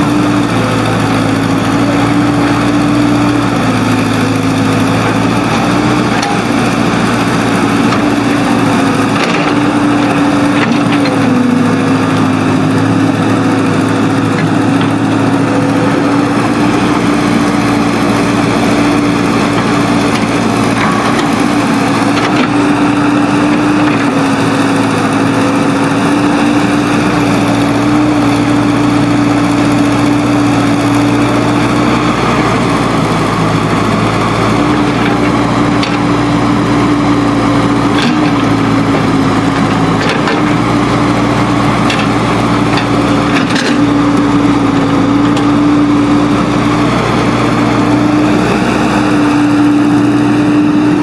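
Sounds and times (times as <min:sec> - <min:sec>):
heavy machinery diesel engine: 0:00.0 - 0:51.0.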